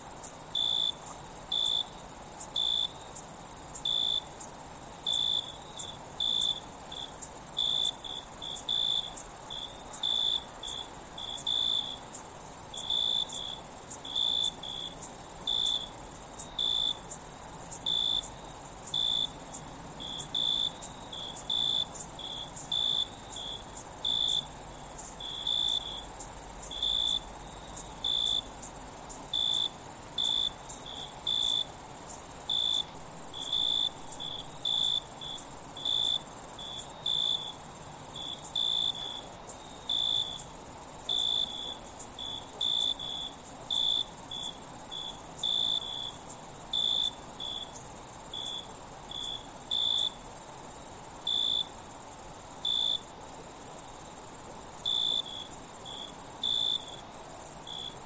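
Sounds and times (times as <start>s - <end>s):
cricket chirps: 0.0s - 58.0s
high-pitched insect trill: 0.1s - 58.0s.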